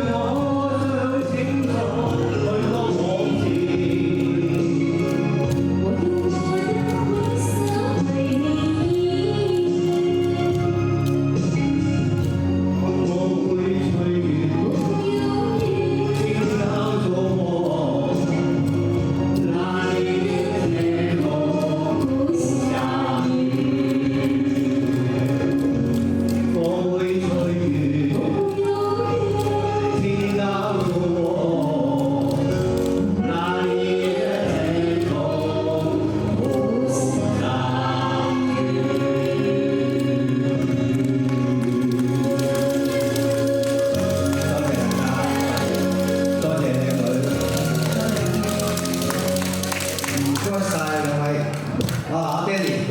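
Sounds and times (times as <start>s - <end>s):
voices singing: 0.0s - 51.3s
instrumental backing track: 0.0s - 52.9s.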